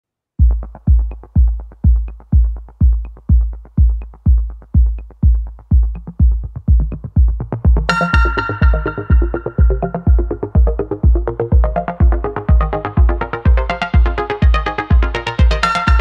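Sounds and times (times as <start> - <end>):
electronic music with heavy bass drum: 0.4 - 16.0.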